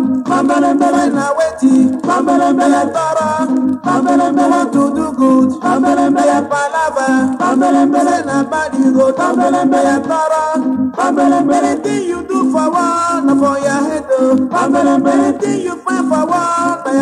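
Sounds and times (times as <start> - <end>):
instrumental highlife band music: 0.0 - 17.0.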